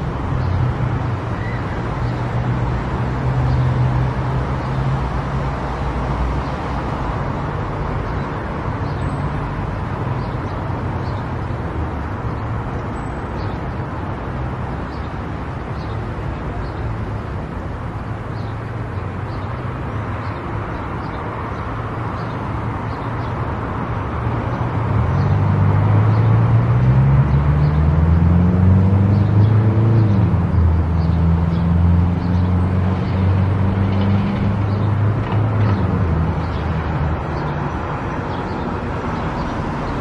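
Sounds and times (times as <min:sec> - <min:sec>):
road and tyre noise: 0:00.0 - 0:40.0.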